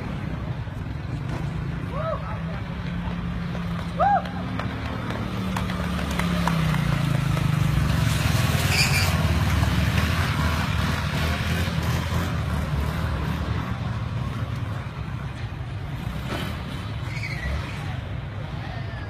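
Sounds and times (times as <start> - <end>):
motorbike engines rumbling: 0.0 - 19.0.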